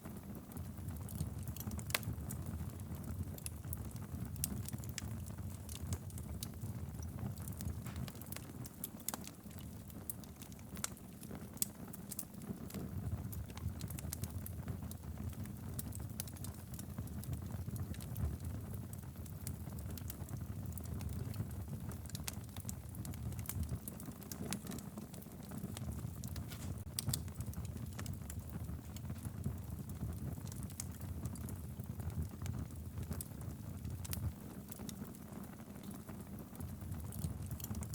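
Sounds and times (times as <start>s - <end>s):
fire crackling and popping: 0.0s - 37.9s
low rumble of flames: 0.0s - 37.9s.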